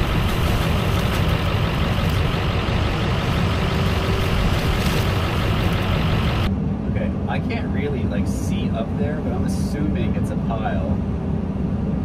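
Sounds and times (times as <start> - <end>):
diesel machinery low rumble: 0.0 - 12.0.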